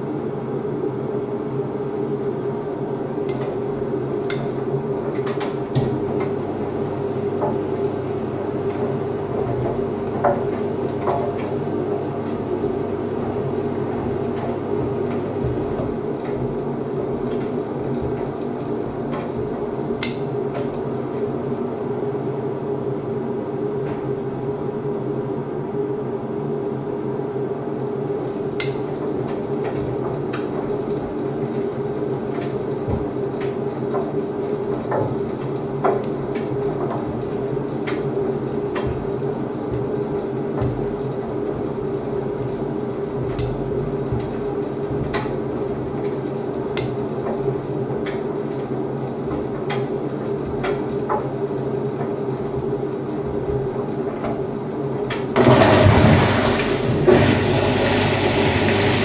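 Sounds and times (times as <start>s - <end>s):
washer-dryer drum humming: 0.0s - 59.0s.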